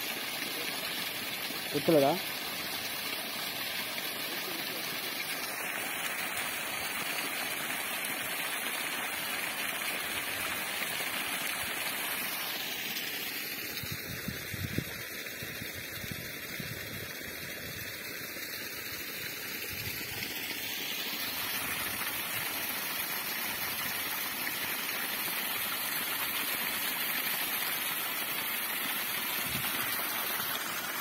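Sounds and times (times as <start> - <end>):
water gushing and splashing: 0.0 - 31.0.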